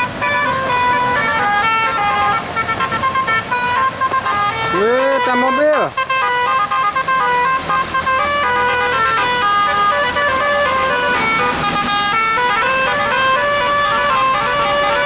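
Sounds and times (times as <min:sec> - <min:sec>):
musical bus horn melody: 0:00.0 - 0:15.0.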